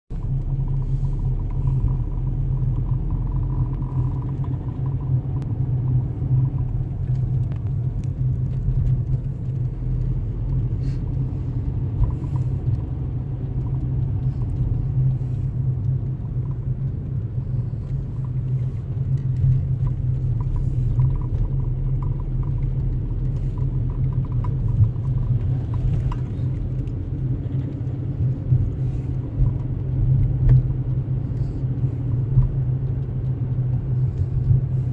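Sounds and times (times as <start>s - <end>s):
car engine and tyres rumbling: 0.1s - 34.9s.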